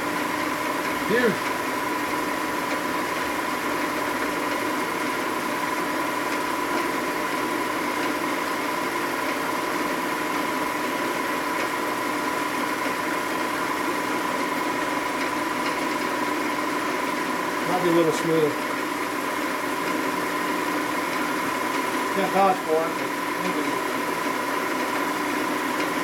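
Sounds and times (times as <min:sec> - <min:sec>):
milling machine cutting metal: 0:00.0 - 0:26.0.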